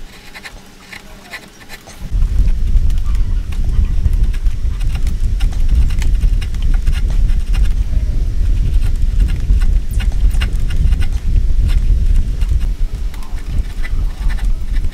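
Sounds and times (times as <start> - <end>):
low steady rumble: 0.0 - 14.9.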